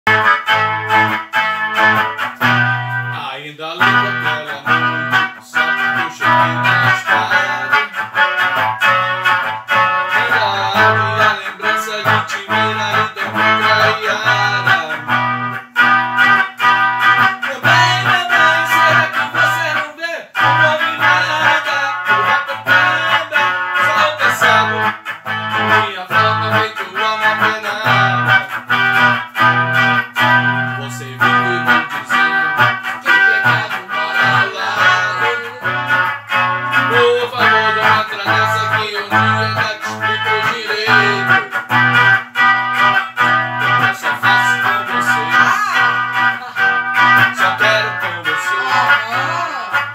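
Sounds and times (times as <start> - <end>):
bass line: 0.1 - 19.8, 20.4 - 49.9
amplified electric guitar: 0.1 - 49.9.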